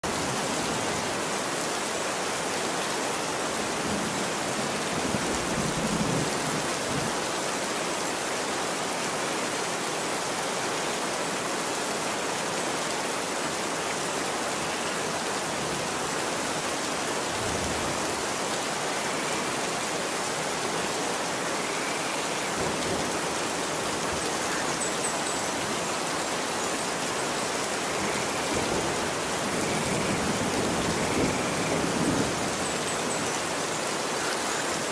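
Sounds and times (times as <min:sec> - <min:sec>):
rain falling on a street: 0:00.0 - 0:34.9.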